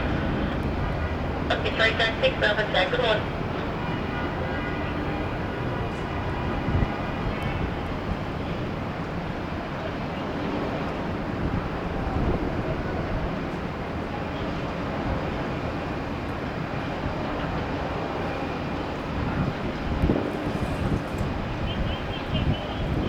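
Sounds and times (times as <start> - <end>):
faint jet engine whine: 0.0 - 23.0
jet engines rumbling: 0.0 - 23.0.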